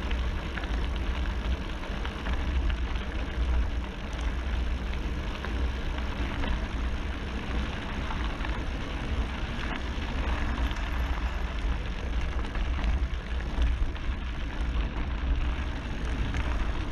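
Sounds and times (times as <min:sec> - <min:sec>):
bike tyres rolling on gravel: 0:00.0 - 0:16.9.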